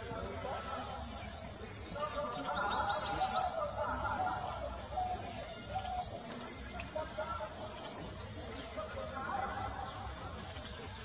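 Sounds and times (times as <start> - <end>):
soft low bird calls: 0.0 - 11.0.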